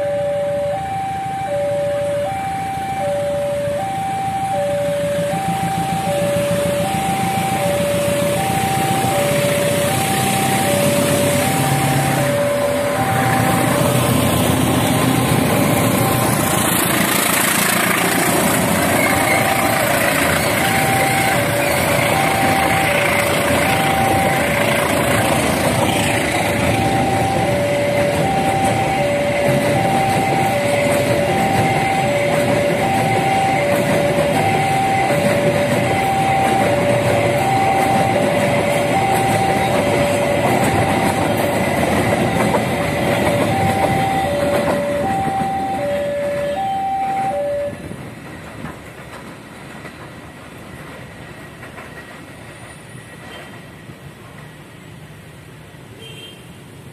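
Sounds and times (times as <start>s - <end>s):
level crossing alarm two tones: 0.0s - 17.4s, 18.7s - 48.0s
diesel locomotive: 0.0s - 56.9s
train wagons rolling past: 2.4s - 55.7s.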